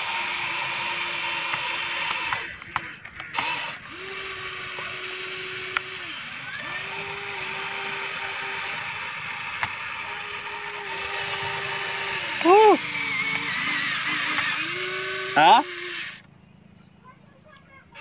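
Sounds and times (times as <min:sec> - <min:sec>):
toy excavator electric motors whining: 0:00.0 - 0:16.4, 0:17.8 - 0:18.0.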